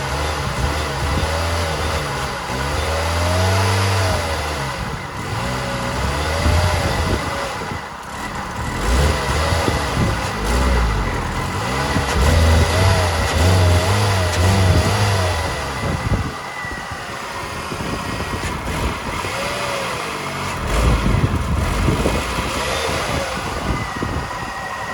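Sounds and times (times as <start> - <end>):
car engine running unevenly: 0.0 - 24.9.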